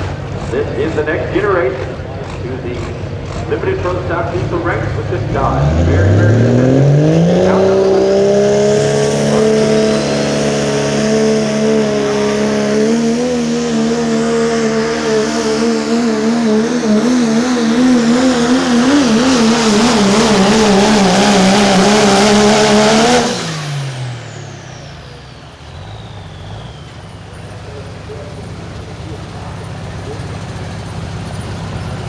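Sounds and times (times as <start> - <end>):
diesel truck engine at full throttle: 0.0 - 32.0
turbo whine: 0.0 - 32.0.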